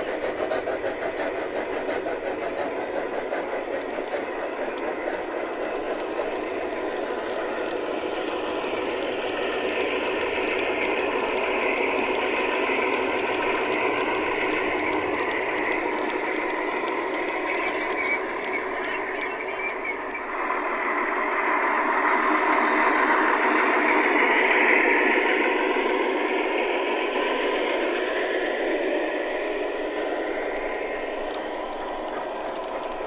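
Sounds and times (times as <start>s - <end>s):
model trains rattling: 0.0s - 33.0s.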